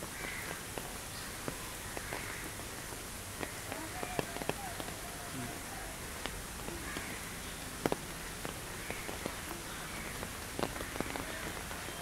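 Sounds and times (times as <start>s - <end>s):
rain falling on foliage: 0.0s - 12.0s.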